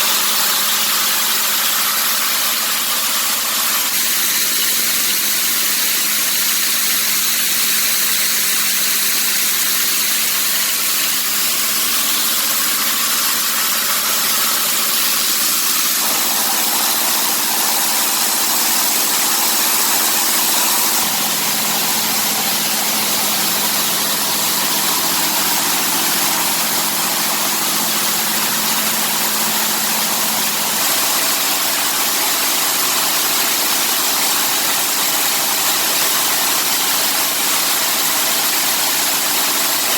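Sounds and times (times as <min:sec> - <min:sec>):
coffee huller running: 0:00.0 - 0:39.9.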